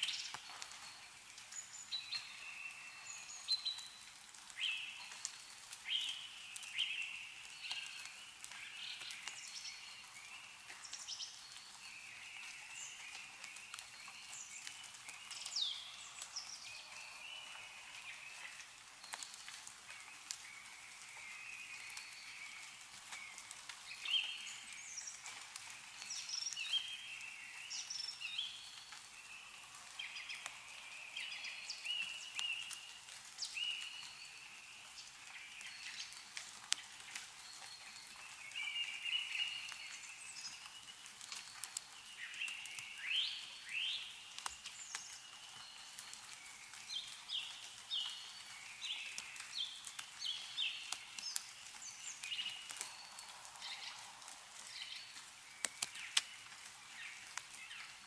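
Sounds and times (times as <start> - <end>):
meltwater dripping from trees: 0.0 - 58.0
small birds chirping and singing: 0.0 - 58.0.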